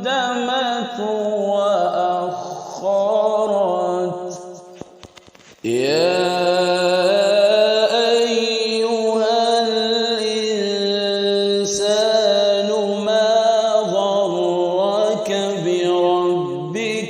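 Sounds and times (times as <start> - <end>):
man reciting melodically: 0.0 - 4.8, 5.6 - 17.0.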